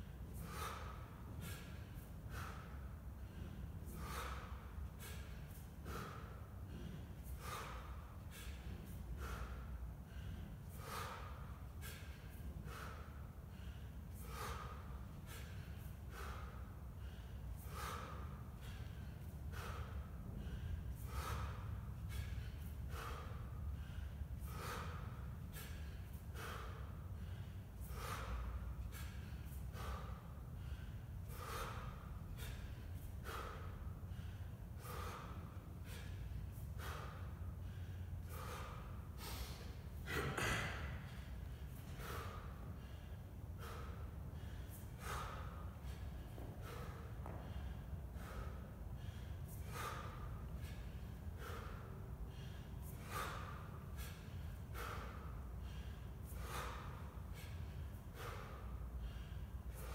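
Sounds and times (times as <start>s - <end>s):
man breathing hard: 0.0s - 59.9s.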